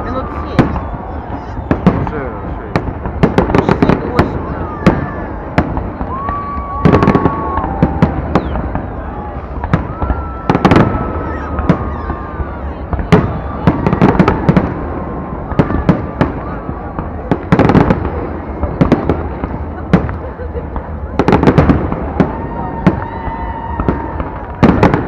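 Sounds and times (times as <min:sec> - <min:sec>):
fireworks bangs and crackles: 0:00.0 - 0:25.0
fireworks whistling: 0:00.0 - 0:25.0.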